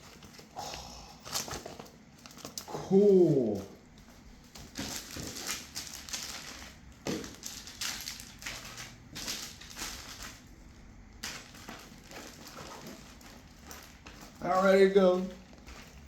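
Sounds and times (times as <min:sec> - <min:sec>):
packaging crackles: 0:00.0 - 0:16.0
packaging rustling and crinkling: 0:00.0 - 0:16.0.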